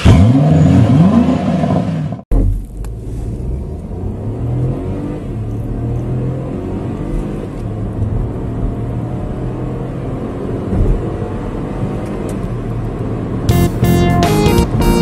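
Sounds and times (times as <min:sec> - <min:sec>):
car engine at full throttle: 0:00.0 - 0:13.9
road rumble: 0:00.0 - 0:14.8.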